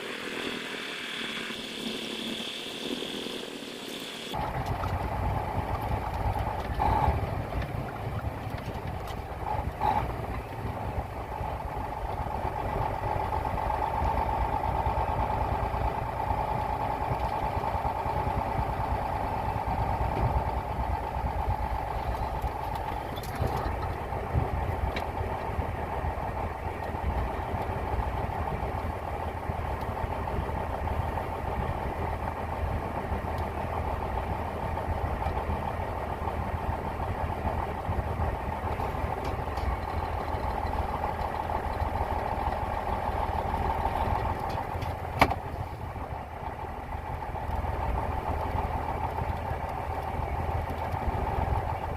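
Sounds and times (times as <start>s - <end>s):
diesel truck engine running: 0.0s - 51.9s.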